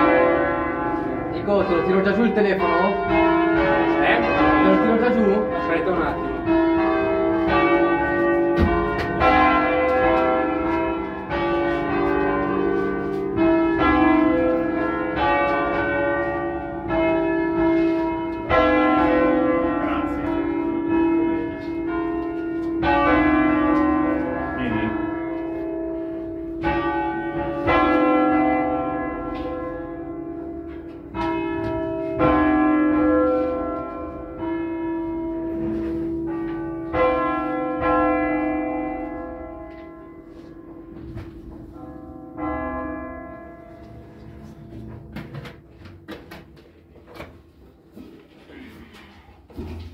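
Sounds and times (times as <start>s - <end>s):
church bells ringing: 0.0s - 48.1s.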